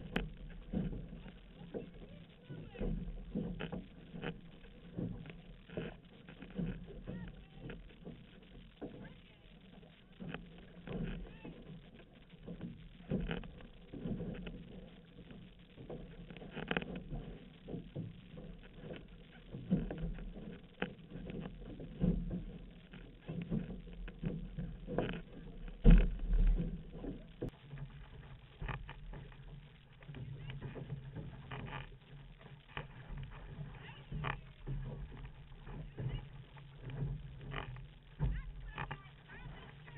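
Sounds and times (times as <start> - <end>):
paddle strokes: 0.0 - 39.9
water splashing along canoe hull: 0.0 - 39.9.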